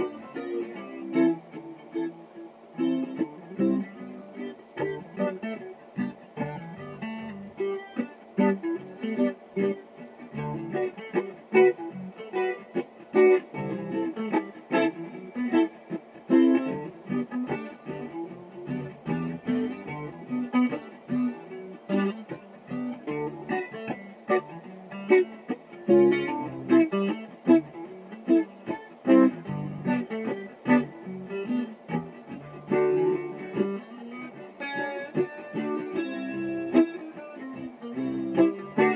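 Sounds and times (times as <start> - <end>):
guitar quickly picked notes: 0.0 - 38.9.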